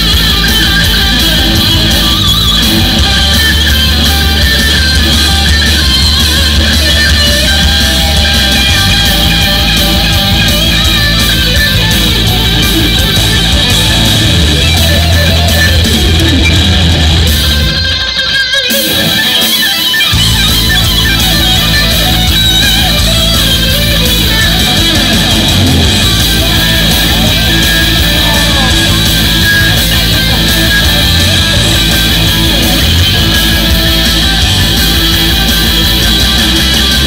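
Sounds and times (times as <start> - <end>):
low backing: 0.0 - 18.1, 20.1 - 37.0
heavy rock electric guitar: 0.0 - 37.0.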